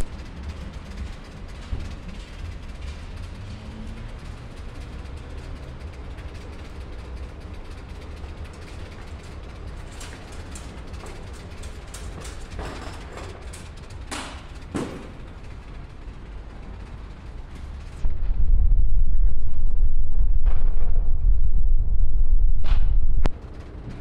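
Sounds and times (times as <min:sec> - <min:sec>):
low rumble of street traffic: 0:00.0 - 0:24.0.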